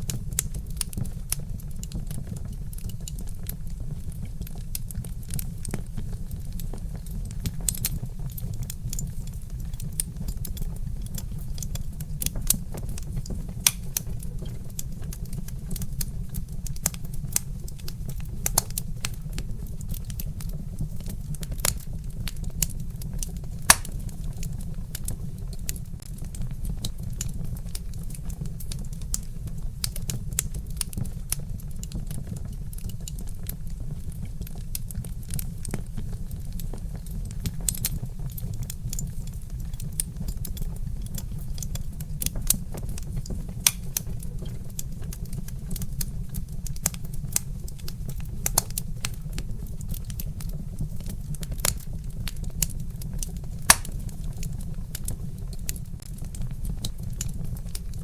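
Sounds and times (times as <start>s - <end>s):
log fire crackling: 0.0s - 58.0s.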